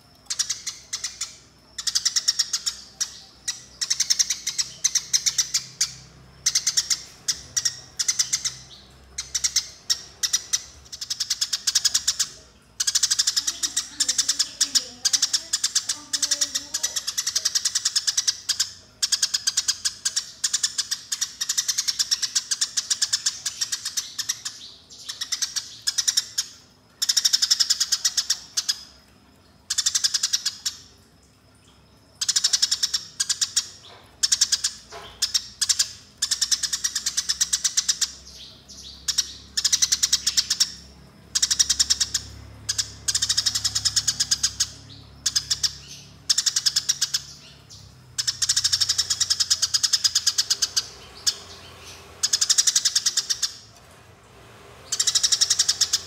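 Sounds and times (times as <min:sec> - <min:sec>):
sparrow chattering: 0:00.3 - 0:28.8, 0:32.2 - 0:53.6, 0:54.9 - 0:56.0.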